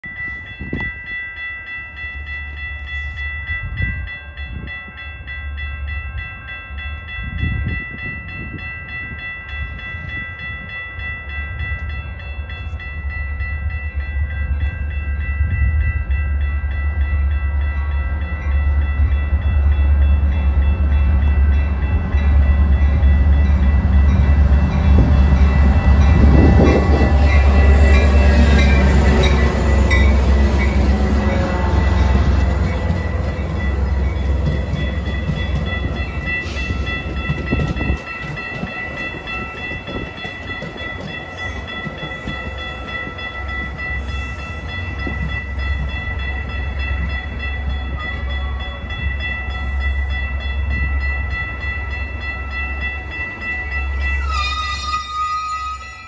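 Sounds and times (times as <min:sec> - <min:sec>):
crossing warning bell ringing: 0:00.0 - 0:56.0
diesel train engine rumble: 0:00.0 - 0:56.0.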